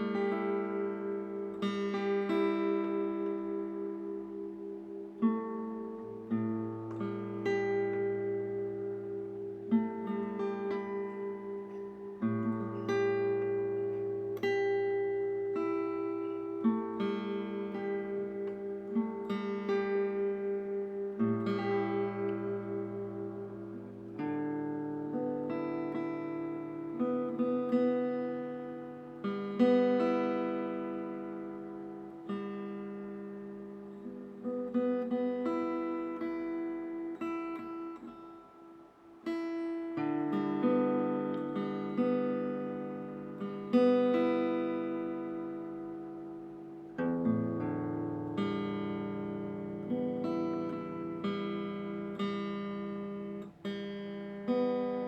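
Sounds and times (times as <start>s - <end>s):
slow plucked acoustic guitar: 0.0s - 55.0s.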